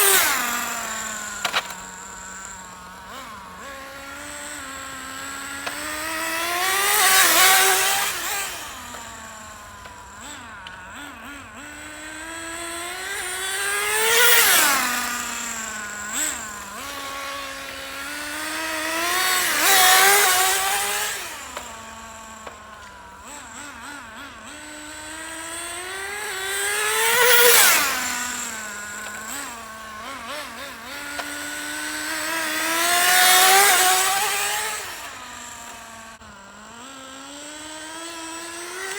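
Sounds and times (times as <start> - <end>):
model car engine revving: 0.0 - 38.9.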